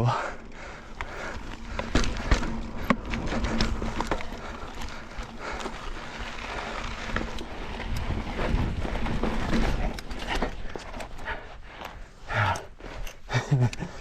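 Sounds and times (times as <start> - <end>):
bike tyres rolling on rock: 0.1 - 13.6
bike knocking and rattling: 0.4 - 14.0.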